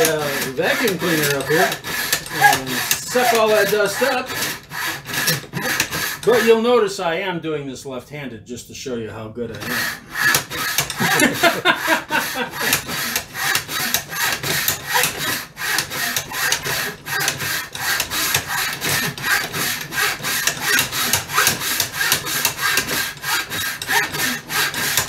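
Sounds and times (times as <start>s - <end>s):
hand saw cutting wood: 0.0s - 6.9s, 9.5s - 25.0s.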